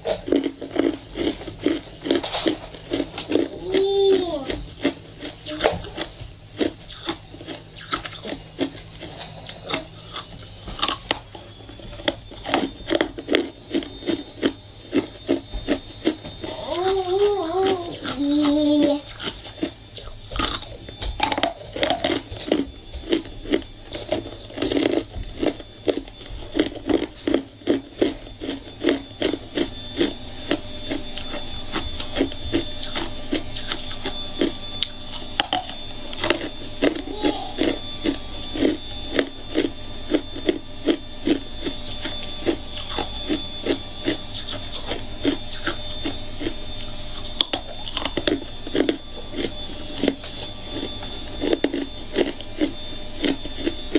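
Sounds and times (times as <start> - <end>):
person chewing hard ice: 0.0 - 53.9.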